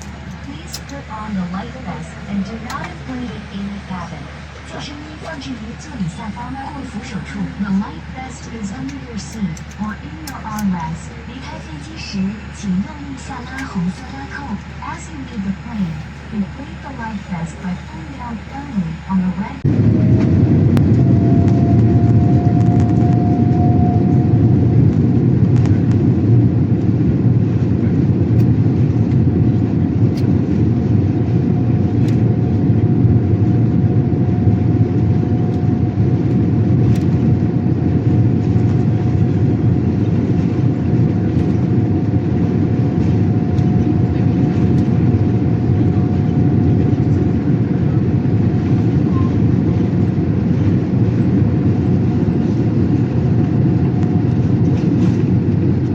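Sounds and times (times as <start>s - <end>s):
airliner cabin rumble: 0.0s - 55.9s
faint steady whine: 0.0s - 55.9s.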